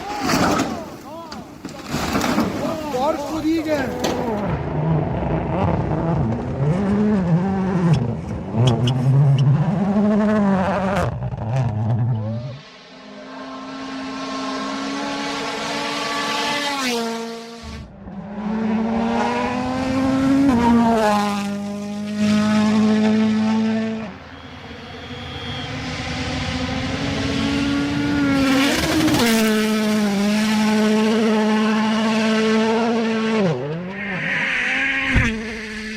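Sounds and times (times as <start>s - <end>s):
vehicle engine revving: 3.9s - 35.9s.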